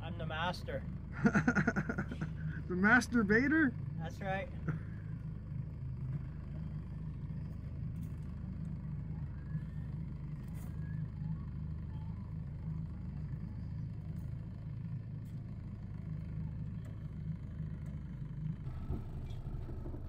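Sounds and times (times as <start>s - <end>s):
boat engine idling: 0.0s - 20.0s.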